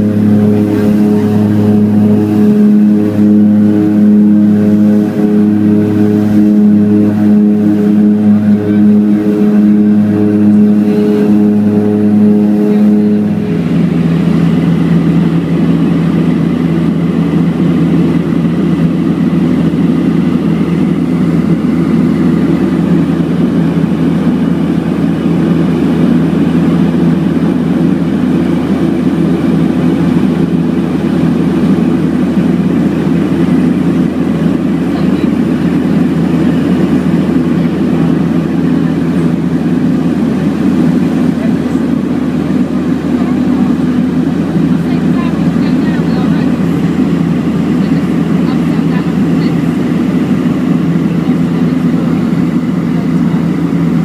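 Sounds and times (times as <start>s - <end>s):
turboprop cabin drone: 0.0s - 54.0s.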